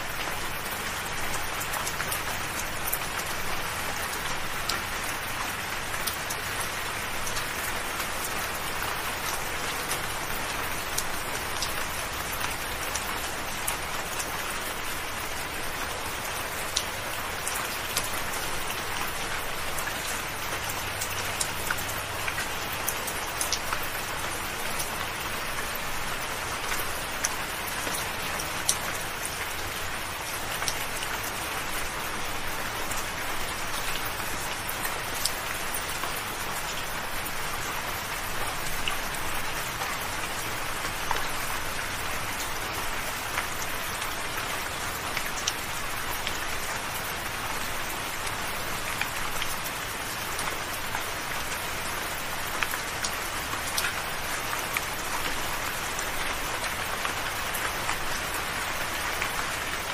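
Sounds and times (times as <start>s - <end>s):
soft rain falling: 0.0s - 59.9s.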